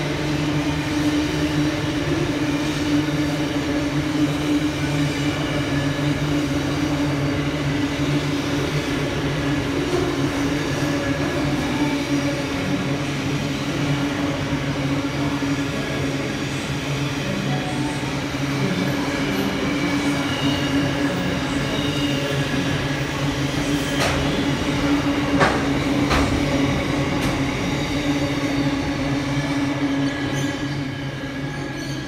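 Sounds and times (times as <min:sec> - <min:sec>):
diesel locomotive engine drone: 0:00.0 - 0:32.0.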